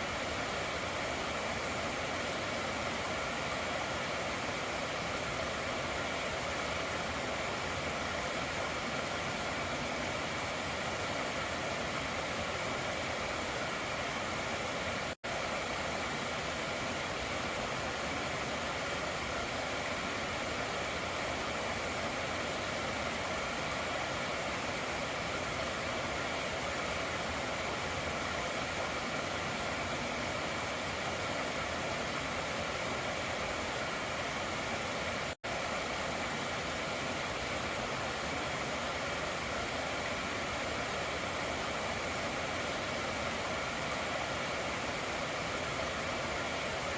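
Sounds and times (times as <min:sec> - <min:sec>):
stream water over rocks: 0:00.0 - 0:46.9.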